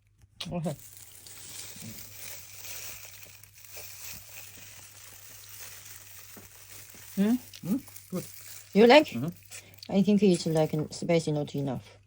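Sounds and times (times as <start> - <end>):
food sizzling on hot plate: 0.7 - 10.8.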